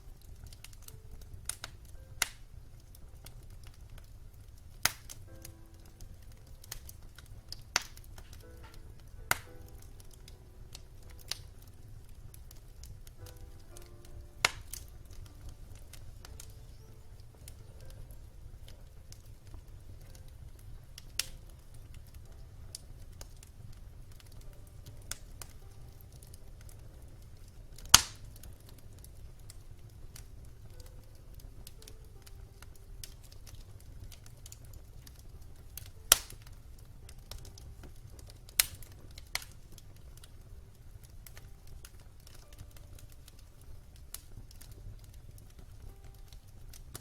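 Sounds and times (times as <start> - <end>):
sharp pops from fire: 0.0 - 47.0
wood fire crackling: 0.0 - 47.0.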